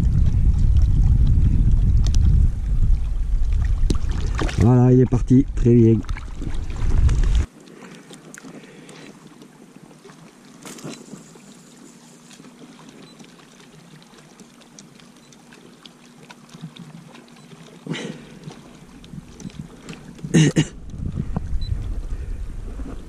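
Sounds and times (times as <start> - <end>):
waves lapping against boat: 0.0 - 23.0.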